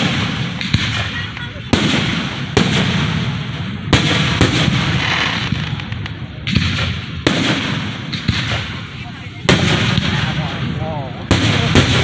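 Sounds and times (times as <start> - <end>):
fireworks booming and crackling: 0.0 - 12.0.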